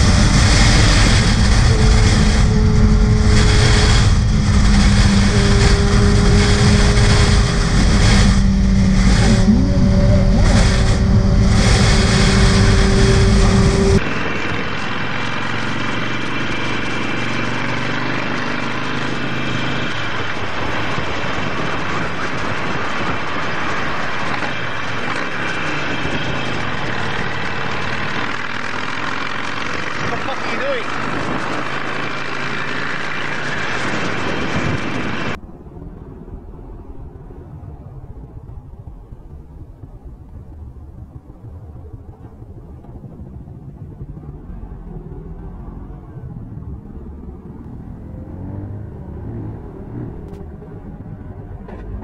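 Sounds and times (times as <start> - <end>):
motorcycle engine drone: 0.0 - 52.0
road noise: 0.0 - 52.0
wind rushing over microphone: 0.0 - 52.0.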